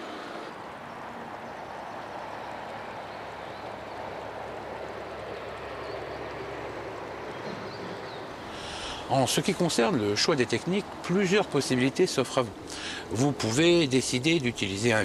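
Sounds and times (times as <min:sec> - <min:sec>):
outdoor background rush: 0:00.0 - 0:15.0.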